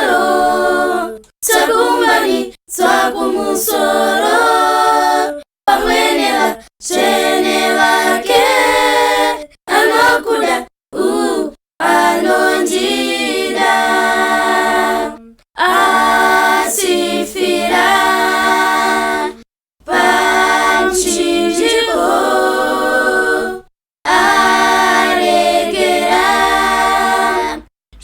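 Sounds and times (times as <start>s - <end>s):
vocal group singing a hymn: 0.0s - 28.0s.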